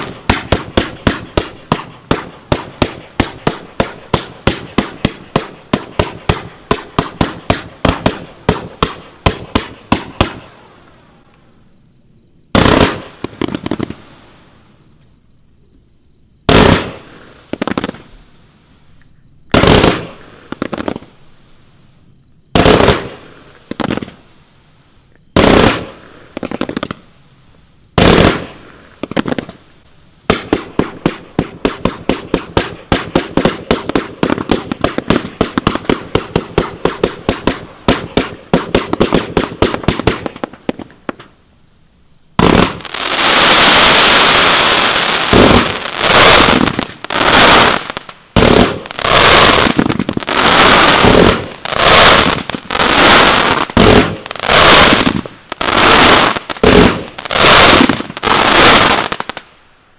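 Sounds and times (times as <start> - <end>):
firework shots: 0.0 - 11.3, 12.5 - 14.5, 16.4 - 18.3, 19.5 - 21.3, 22.5 - 24.2, 25.3 - 27.1, 28.0 - 41.4, 42.4 - 59.6
scattered firework pops: 0.0 - 11.4, 12.6 - 14.0, 16.5 - 18.2, 19.0 - 21.2, 22.5 - 24.2, 25.1 - 41.4, 42.4 - 59.5.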